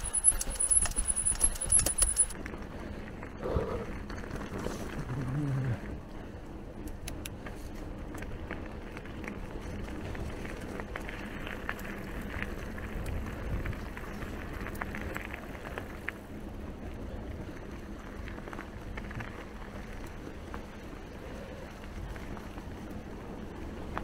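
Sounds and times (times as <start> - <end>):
bike clicks and rattles: 0.0 - 3.3, 3.9 - 24.0
bike tyres rolling on trail: 0.0 - 24.0.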